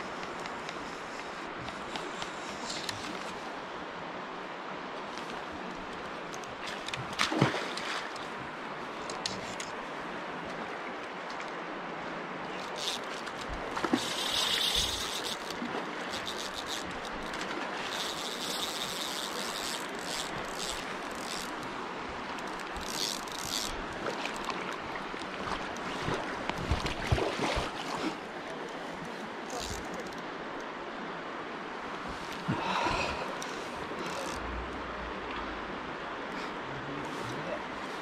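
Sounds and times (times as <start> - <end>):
river water flowing: 0.0 - 38.0.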